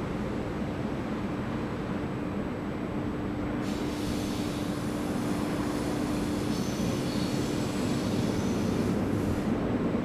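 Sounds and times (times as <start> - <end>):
freight train rumbling: 0.0 - 10.0.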